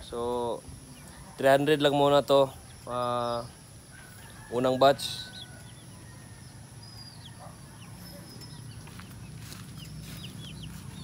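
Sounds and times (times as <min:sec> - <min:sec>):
chicks peeping: 0:00.2 - 0:11.0.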